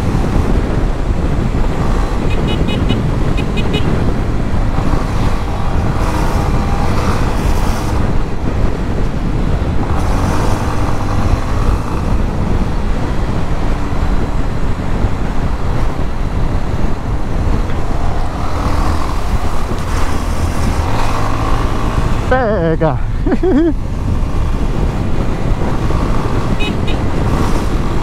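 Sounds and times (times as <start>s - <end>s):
wind rush on microphone: 0.0s - 28.0s.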